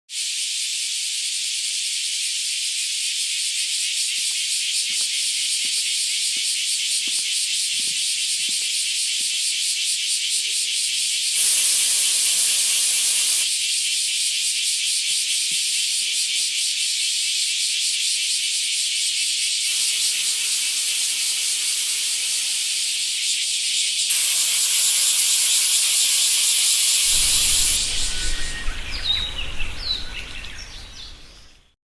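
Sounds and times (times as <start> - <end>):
cicadas droning: 0.1 - 31.8.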